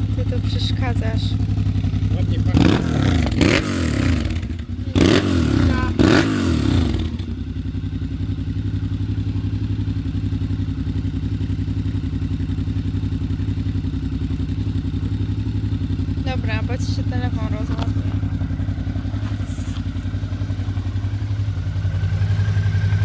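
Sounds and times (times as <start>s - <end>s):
motorcycle engine revving and idling: 0.0s - 23.0s.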